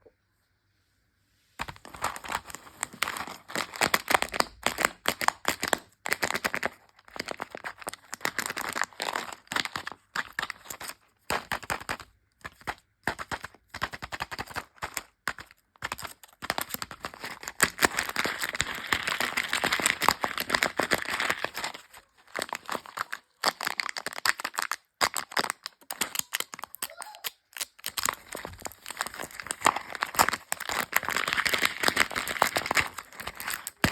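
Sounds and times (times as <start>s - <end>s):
wrappers crinkling and tearing: 1.6s - 33.9s.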